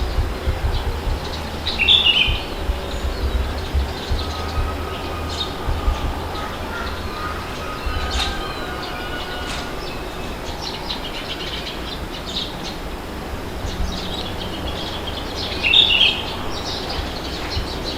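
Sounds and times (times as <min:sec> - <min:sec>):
small birds chirping: 0:00.0 - 0:17.9
wind blowing: 0:00.0 - 0:17.9.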